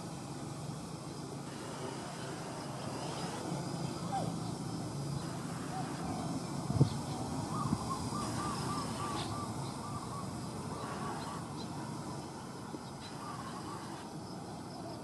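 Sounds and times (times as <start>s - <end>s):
outdoor noise haze: 0.0s - 15.0s.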